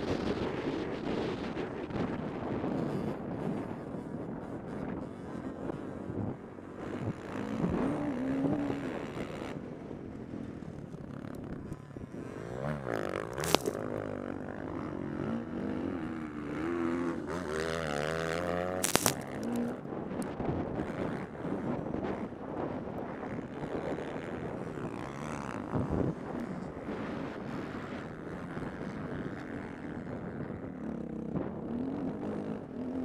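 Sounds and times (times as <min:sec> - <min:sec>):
motorbike engine revving: 0:00.0 - 0:33.0
wind buffeting microphone: 0:00.0 - 0:33.0.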